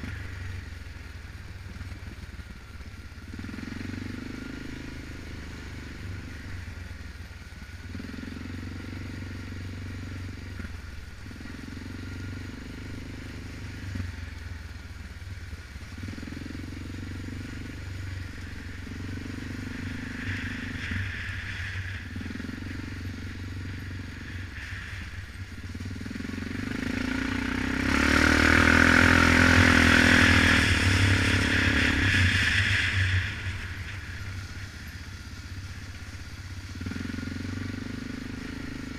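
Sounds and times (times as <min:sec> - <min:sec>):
atv engine revving: 0:03.2 - 0:06.7, 0:07.8 - 0:14.2, 0:15.5 - 0:38.9.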